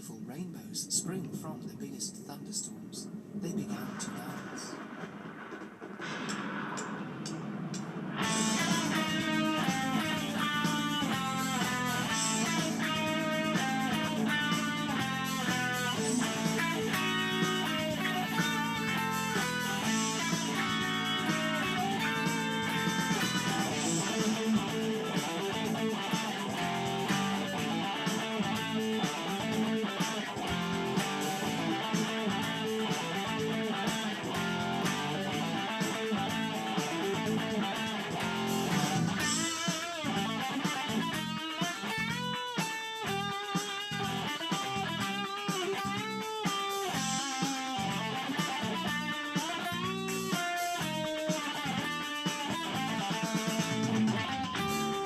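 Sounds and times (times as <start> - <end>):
electric guitar music: 6.0 - 55.0
lead guitar with bent notes: 7.8 - 55.0.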